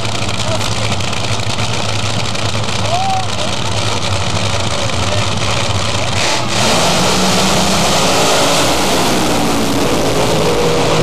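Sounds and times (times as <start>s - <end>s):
drag racing engines at full power: 0.0s - 11.0s.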